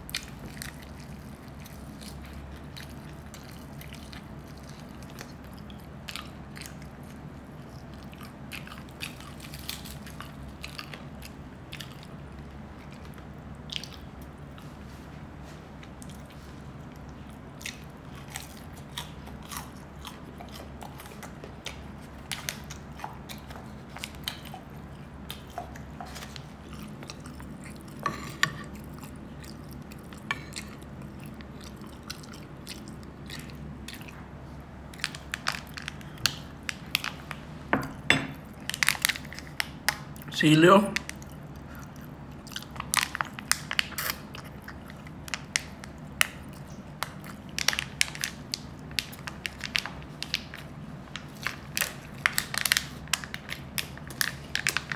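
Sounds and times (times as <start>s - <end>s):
person chewing food: 0.0s - 40.3s, 41.0s - 54.9s
steady low hum: 0.0s - 54.9s.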